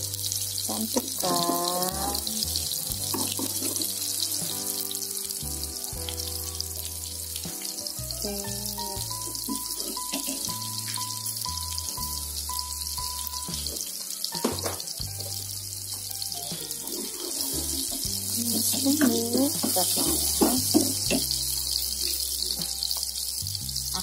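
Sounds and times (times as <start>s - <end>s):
background music: 0.0s - 24.0s
food sizzling in hot oil: 0.0s - 24.0s.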